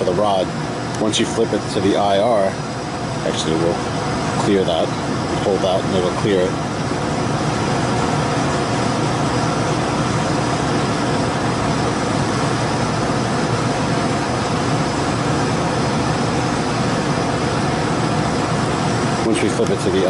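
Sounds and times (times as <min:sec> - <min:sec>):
gas furnace running: 0:00.0 - 0:20.0.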